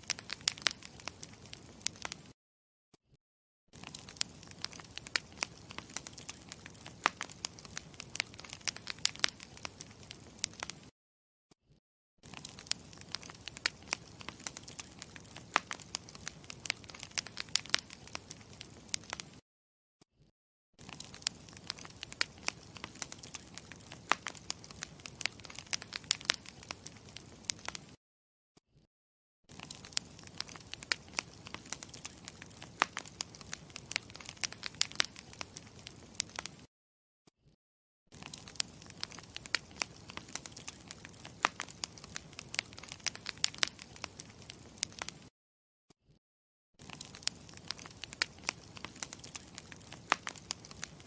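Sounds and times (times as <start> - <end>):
campfire crackling: 0.0 - 2.3, 3.8 - 10.9, 12.2 - 19.4, 20.8 - 28.0, 29.5 - 36.7, 38.2 - 45.3, 46.8 - 51.0
fire popping and snapping: 0.0 - 2.3, 3.8 - 10.9, 12.2 - 19.4, 20.8 - 28.0, 29.5 - 36.7, 38.1 - 45.3, 46.8 - 51.0.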